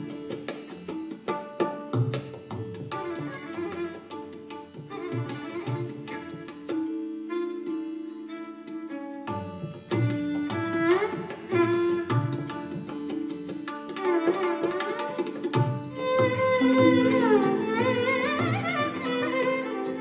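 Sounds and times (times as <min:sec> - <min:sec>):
tabla drumming: 0:00.0 - 0:08.0, 0:08.8 - 0:20.0
violin sliding melody: 0:00.0 - 0:20.0.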